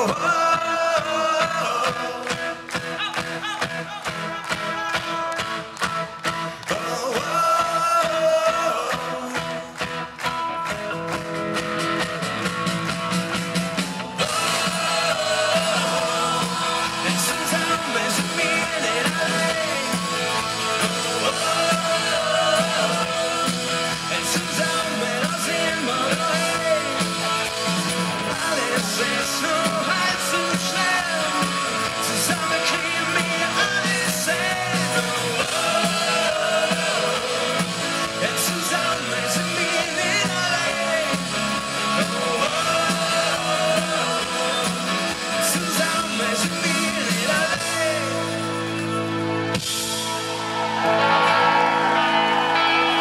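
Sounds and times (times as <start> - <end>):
person singing: 0.0 - 11.1, 13.8 - 49.0
drum kit: 0.0 - 53.0
electric guitars: 0.0 - 53.0
rock band playing: 0.0 - 53.0.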